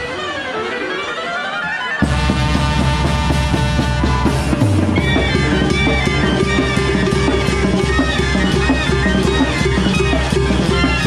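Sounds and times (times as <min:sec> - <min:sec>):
brass band dance music: 0:00.0 - 0:11.0
drum kit with cymbals: 0:02.0 - 0:11.0.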